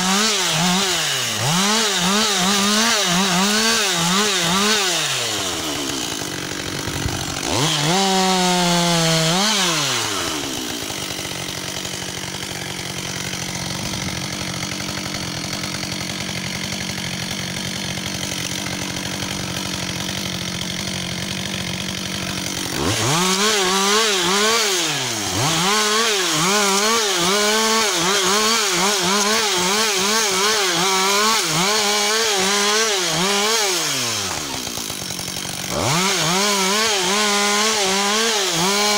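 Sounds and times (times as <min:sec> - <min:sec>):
chainsaw revving and cutting wood: 0:00.0 - 0:38.9.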